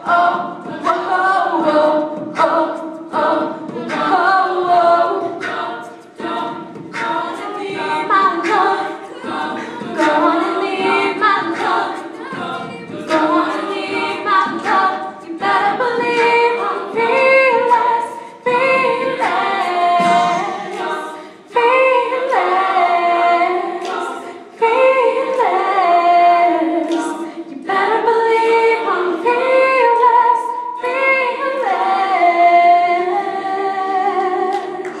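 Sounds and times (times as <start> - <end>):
women singing in harmony: 0.0 - 35.0.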